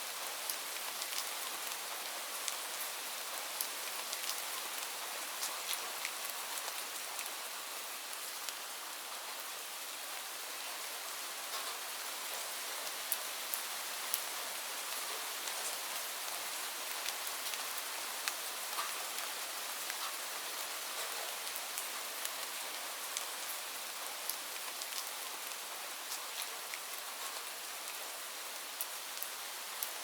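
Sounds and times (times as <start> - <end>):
steady rain falling: 0.0 - 30.0
raindrops ticking on a surface: 0.1 - 9.4, 10.2 - 30.0.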